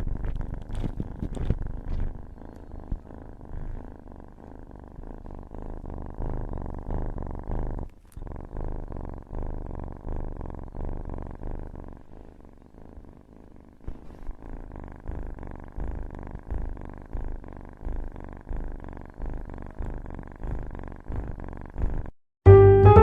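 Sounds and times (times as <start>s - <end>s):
cat purring: 0.0s - 22.2s.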